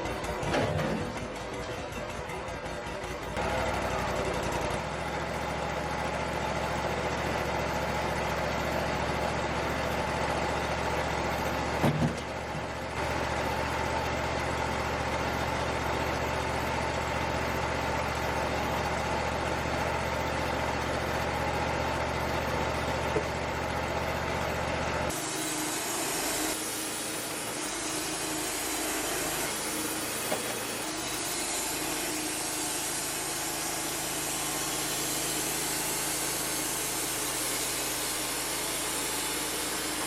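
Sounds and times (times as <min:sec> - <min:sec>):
sawmill engine idling: 0:00.0 - 0:40.0.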